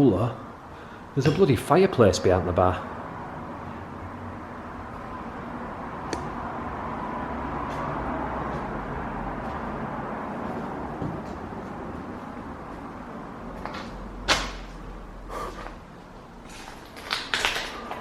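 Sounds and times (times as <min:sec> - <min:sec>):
hum of passing traffic: 0:00.0 - 0:18.0.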